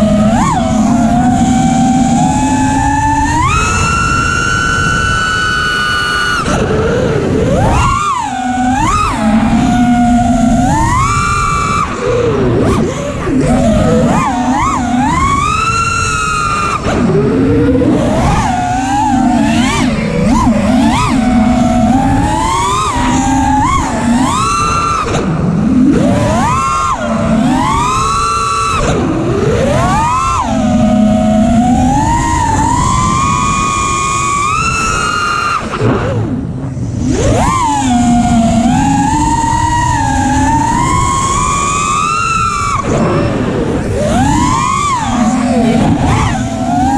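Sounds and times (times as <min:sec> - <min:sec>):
drone motors whining: 0:00.0 - 0:46.9
wind and propeller wash rumble: 0:00.0 - 0:46.9.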